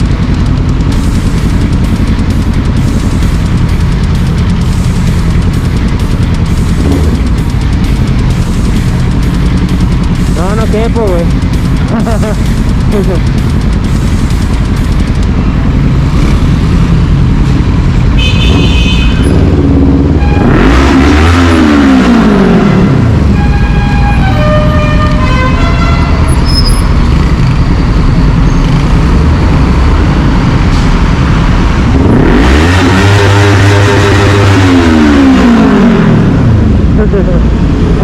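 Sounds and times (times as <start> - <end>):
traffic rumble: 0.0 - 38.0
vehicle engine revving: 0.0 - 38.0.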